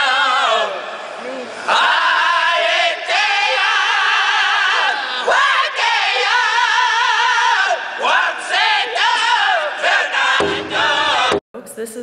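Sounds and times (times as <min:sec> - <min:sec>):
voices singing long notes: 0:00.0 - 0:11.4.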